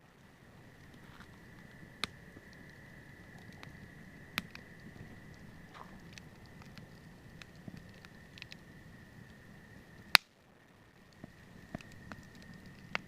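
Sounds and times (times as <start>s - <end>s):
faint low rumble: 0.0s - 13.0s
steady high whine: 0.0s - 13.0s
wood fire crackling: 0.0s - 13.0s.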